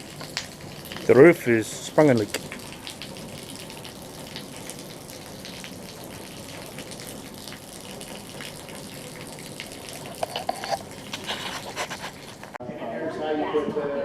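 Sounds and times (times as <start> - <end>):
water running and spattering: 0.0 - 12.6.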